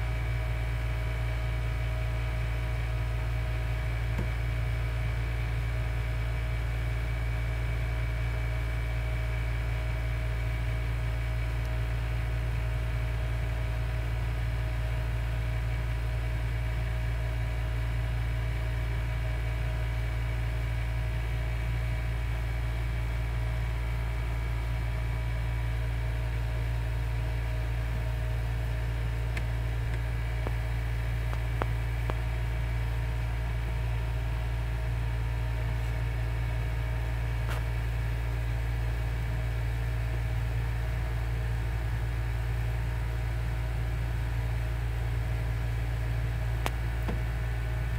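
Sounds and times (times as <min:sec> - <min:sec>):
low mechanical hum: 0:00.0 - 0:47.9.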